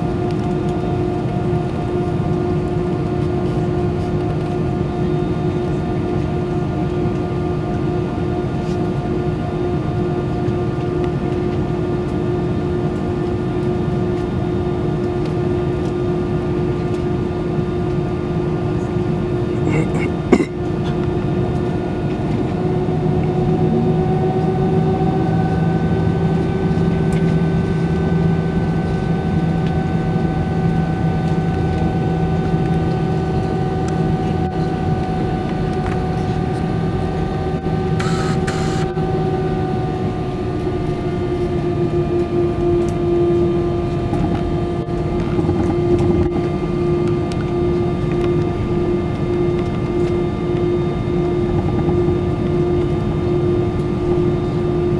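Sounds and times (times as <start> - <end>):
aircraft cabin hum and whine: 0.0 - 54.9.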